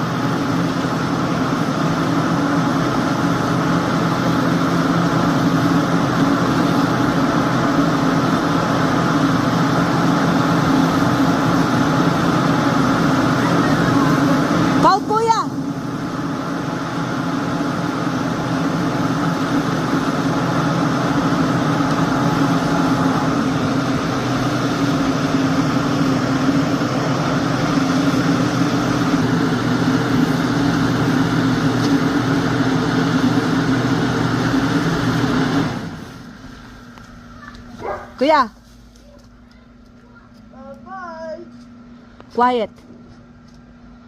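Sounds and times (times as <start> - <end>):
blower fans humming: 0.0 - 44.0.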